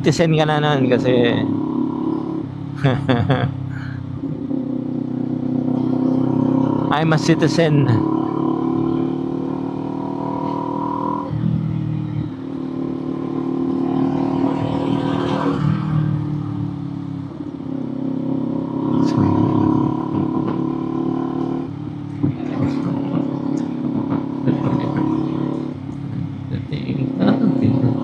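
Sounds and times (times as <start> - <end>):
motorcycle engine and exhaust: 0.0 - 28.0.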